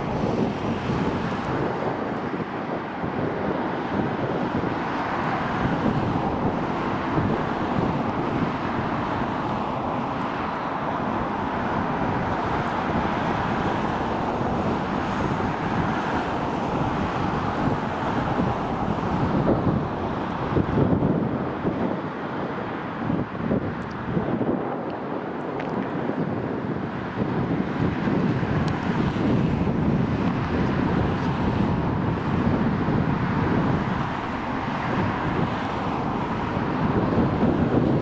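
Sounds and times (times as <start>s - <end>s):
wind noise on microphone: 0.0s - 38.0s.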